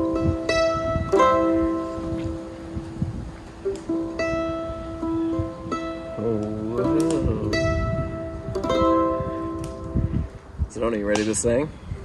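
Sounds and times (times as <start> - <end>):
mandolin chords ringing: 0.0 - 10.4.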